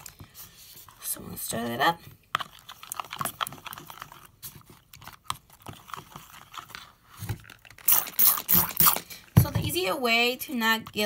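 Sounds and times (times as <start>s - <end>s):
utensil stirring slime in plastic bowl: 0.0s - 11.0s.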